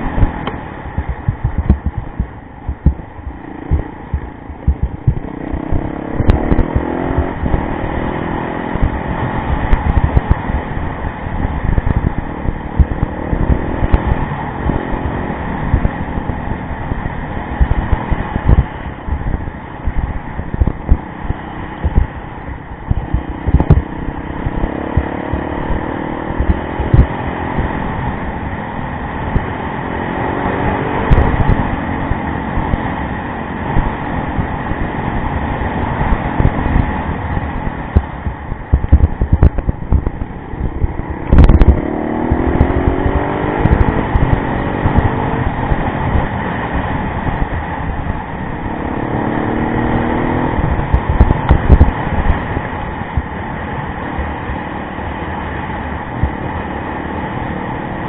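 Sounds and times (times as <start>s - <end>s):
low thumps and buffeting: 0.0s - 58.0s
motorcycle engine running: 0.0s - 58.0s.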